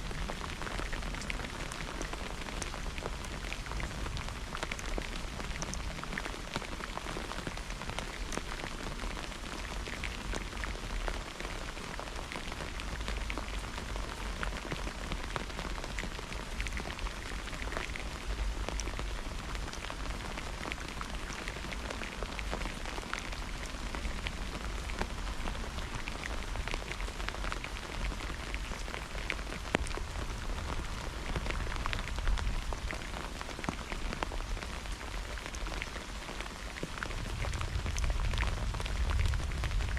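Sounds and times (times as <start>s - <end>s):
rain on hard surface: 0.0s - 39.9s
raindrop ticks: 0.0s - 39.9s.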